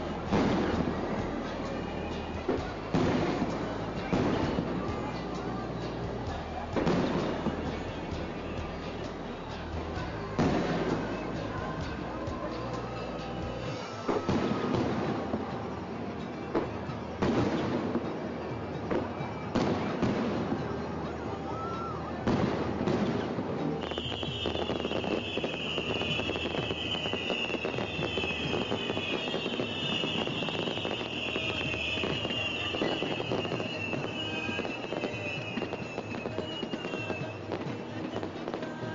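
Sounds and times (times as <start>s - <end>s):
fireworks banging: 0.0s - 38.9s
fireworks crackling: 0.0s - 38.9s.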